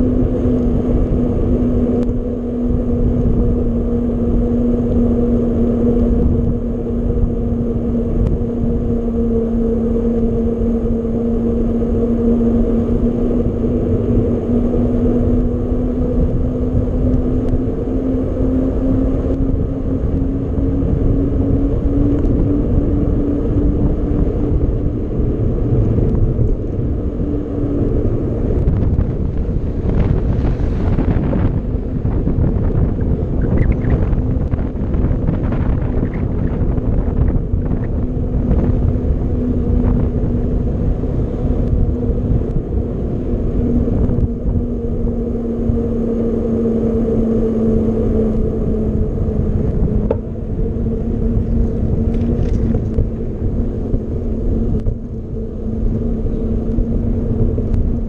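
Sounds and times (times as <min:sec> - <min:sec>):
mountain bike rumble: 0:00.0 - 0:58.0
steady hum: 0:00.0 - 0:58.0
wind buffeting microphone: 0:00.0 - 0:58.0.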